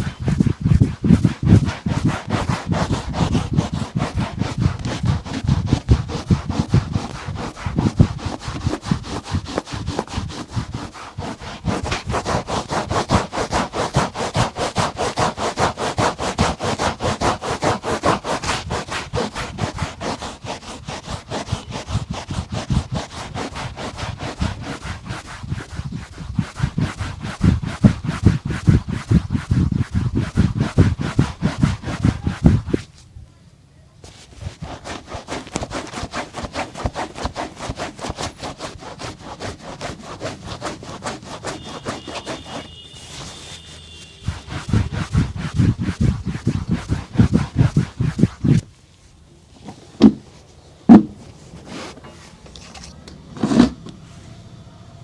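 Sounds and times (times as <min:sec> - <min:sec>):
shoe brush scrubbing leather boot: 0:00.0 - 0:33.0, 0:34.0 - 0:48.9.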